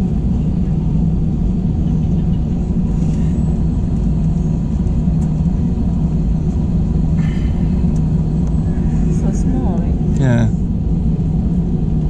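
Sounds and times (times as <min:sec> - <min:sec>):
constant low hum: 0:00.0 - 0:12.0
jet engine cabin drone: 0:00.0 - 0:12.0.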